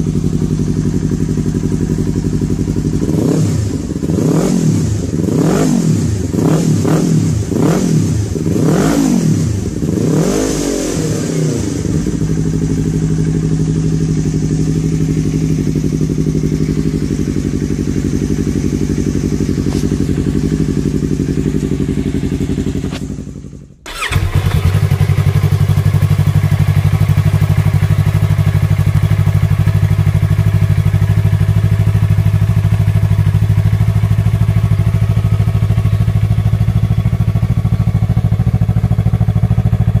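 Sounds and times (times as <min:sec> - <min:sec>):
motorcycle engine revving and idling: 0:00.0 - 0:40.0.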